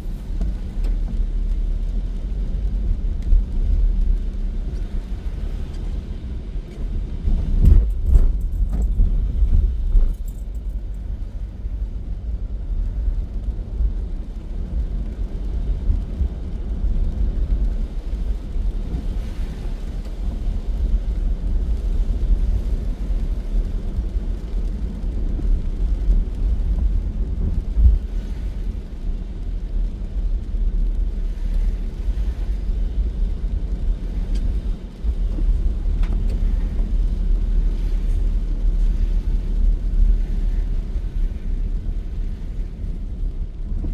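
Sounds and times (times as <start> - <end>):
car road rumble: 0.0 - 43.9.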